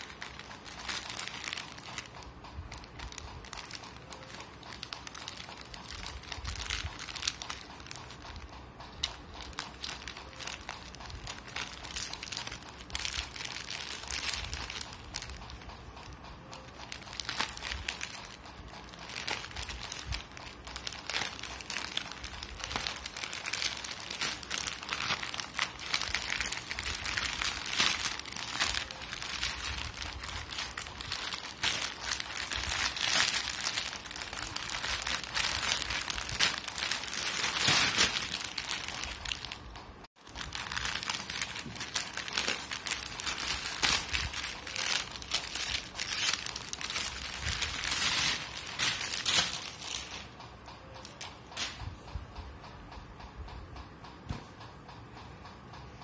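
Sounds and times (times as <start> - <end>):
scissors cutting plastic: 0.0 - 39.6, 40.3 - 50.4
plastic mailer crinkling: 0.0 - 50.3.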